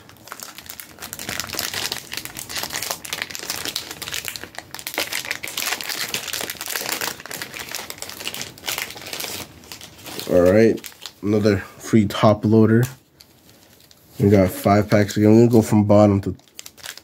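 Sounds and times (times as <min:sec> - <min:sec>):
plastic wrapping crinkling: 0:00.0 - 0:11.6, 0:12.2 - 0:15.6, 0:16.2 - 0:17.0.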